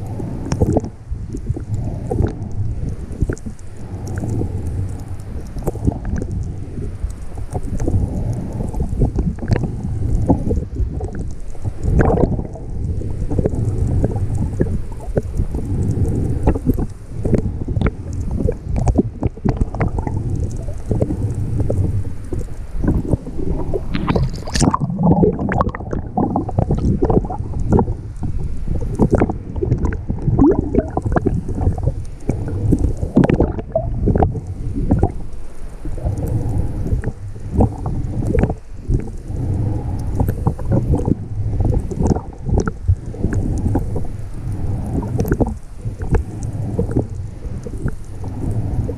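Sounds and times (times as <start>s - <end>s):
faint hiss: 0.0s - 48.9s
underwater water rumble: 0.0s - 48.9s.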